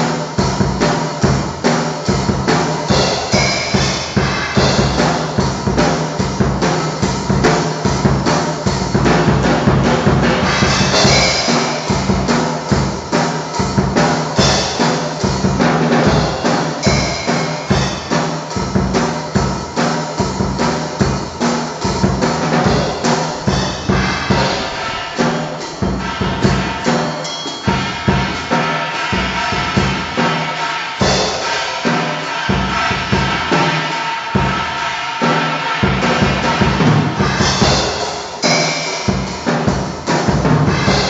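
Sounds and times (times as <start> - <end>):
drum kit groove: 0.0 - 41.0.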